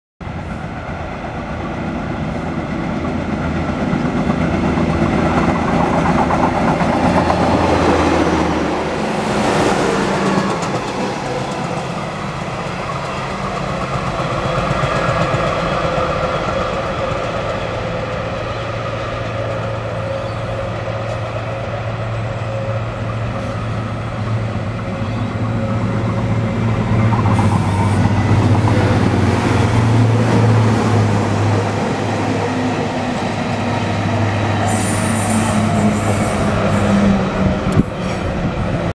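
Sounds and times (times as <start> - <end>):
electric passenger train passing: 0.2 - 38.9
low hum of rail vehicles: 0.2 - 38.9
train rumble: 0.2 - 38.9.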